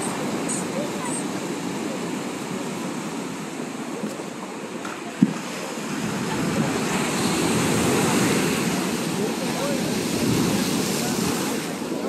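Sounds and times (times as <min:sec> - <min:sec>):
waves washing against seawall: 0:00.0 - 0:12.0.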